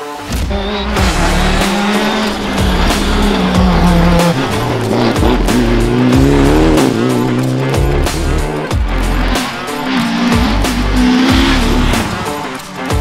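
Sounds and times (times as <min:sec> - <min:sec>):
background music: 0:00.0 - 0:13.0
rally car engines running hard: 0:00.0 - 0:13.0.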